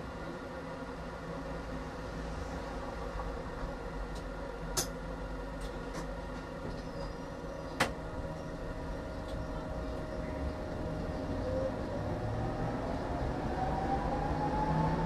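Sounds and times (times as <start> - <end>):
tram hum: 0.0 - 15.0
tram rumbling on rails: 0.0 - 15.0.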